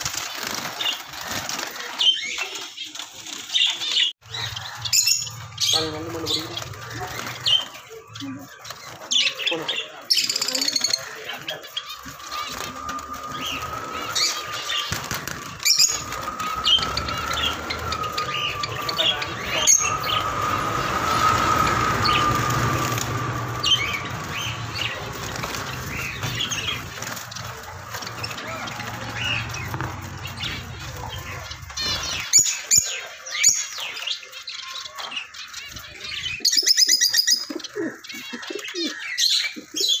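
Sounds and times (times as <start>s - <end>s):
wings fluttering: 0.0s - 37.6s
finches chirping: 3.5s - 40.0s.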